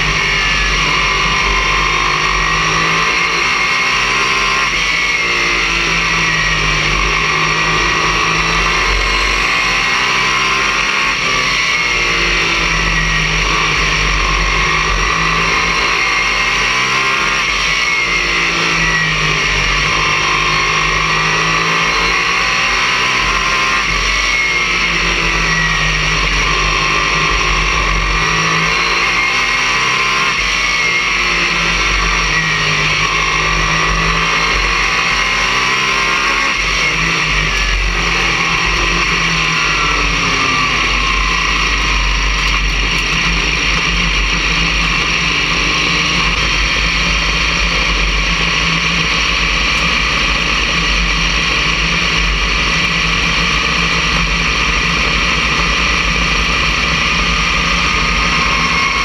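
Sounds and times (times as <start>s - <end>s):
race car engine: 0.0s - 59.0s
wind and road noise: 0.0s - 59.0s.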